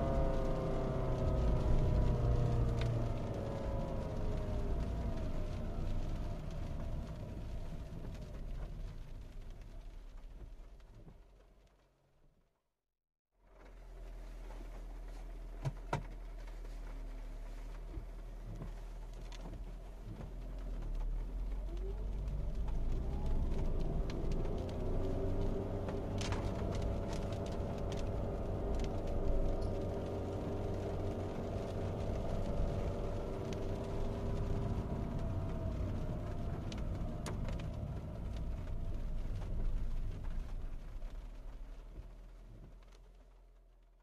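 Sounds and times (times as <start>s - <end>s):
car engine accelerating: 0.0s - 11.2s, 13.5s - 43.8s
low road rumble: 0.0s - 12.7s, 13.3s - 44.0s.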